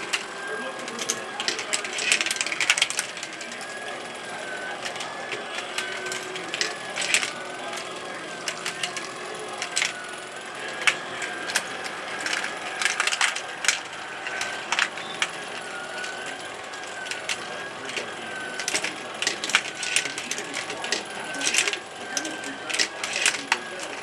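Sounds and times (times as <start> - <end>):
marbles clicking and clattering: 0.0 - 24.0.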